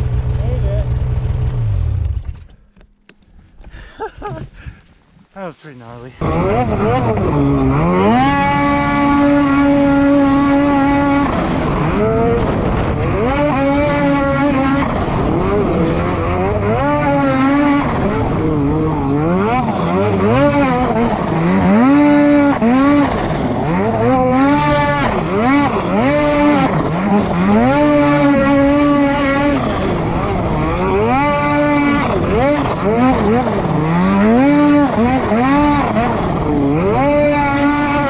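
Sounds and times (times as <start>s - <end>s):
snowmobile engine revving: 5.4s - 38.0s.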